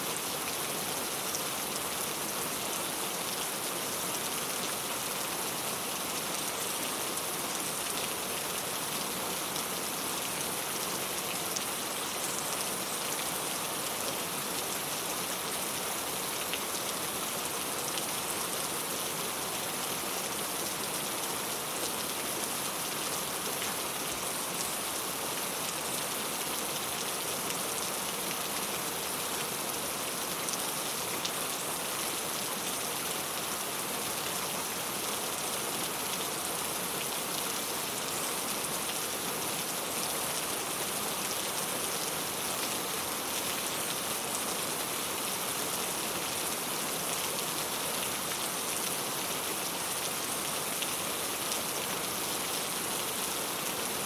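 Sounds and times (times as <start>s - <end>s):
rain on tile roof: 0.2s - 54.0s.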